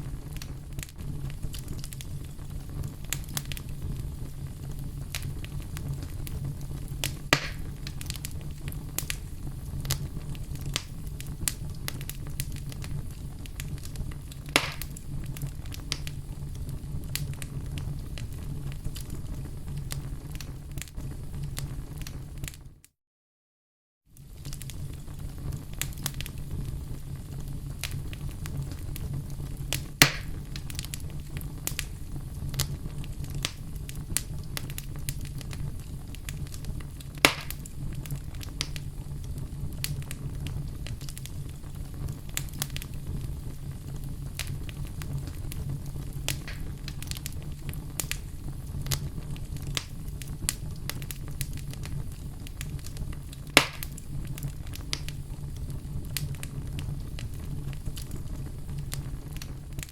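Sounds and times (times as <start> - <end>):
fire rumbling in fireplace: 0.0 - 22.9, 24.1 - 59.9
small fire crackles: 0.0 - 23.0, 24.0 - 59.9
loud sharp fire pops: 0.1 - 22.6, 24.2 - 59.9.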